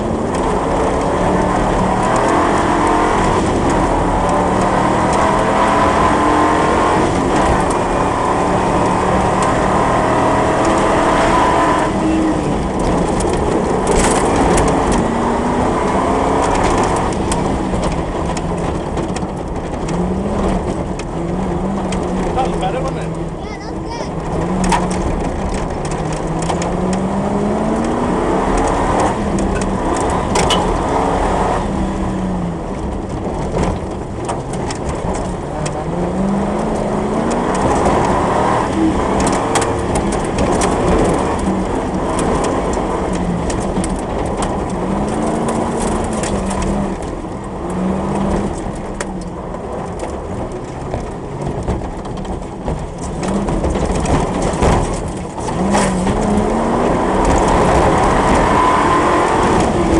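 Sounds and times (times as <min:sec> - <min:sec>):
knocks and rattles: 0:00.0 - 0:59.9
off-road vehicle engine revving: 0:00.0 - 0:59.9.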